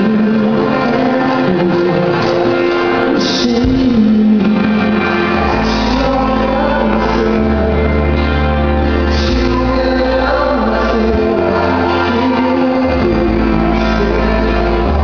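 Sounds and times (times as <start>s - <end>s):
bass notes: 0.0s - 15.0s
man singing: 0.0s - 15.0s.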